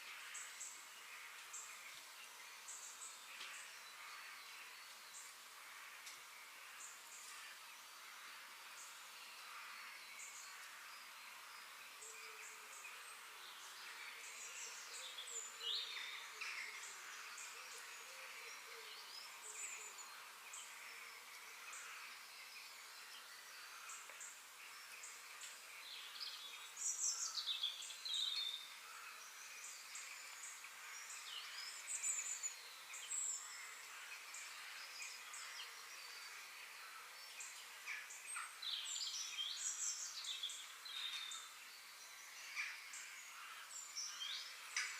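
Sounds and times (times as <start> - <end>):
faint background hiss: 0.0 - 44.9
small birds chirping: 0.0 - 44.9.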